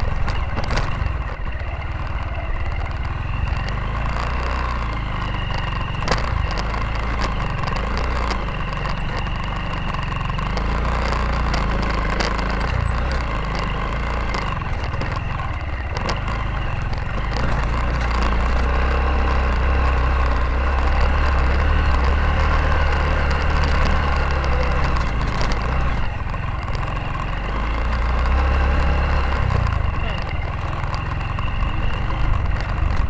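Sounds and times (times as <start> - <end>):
clicks and knocks from bumps: 0.0 - 1.6, 2.8 - 33.0
motorcycle engine running: 0.0 - 33.0.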